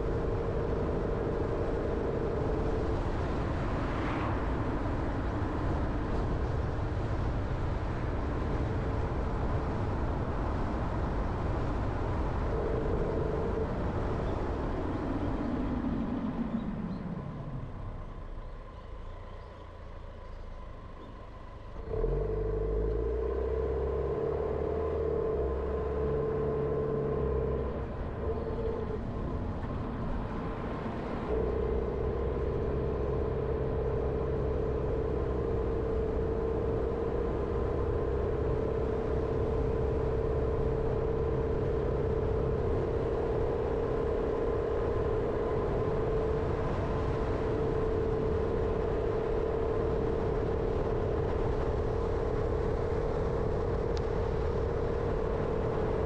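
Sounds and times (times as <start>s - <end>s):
car engine driving: 0.0s - 56.0s
constant whining tone: 0.0s - 56.0s
road noise: 0.0s - 56.0s.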